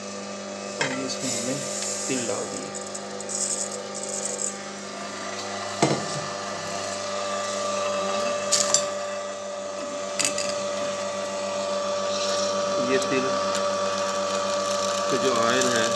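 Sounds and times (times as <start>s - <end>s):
oil press motor whine: 0.0s - 15.9s.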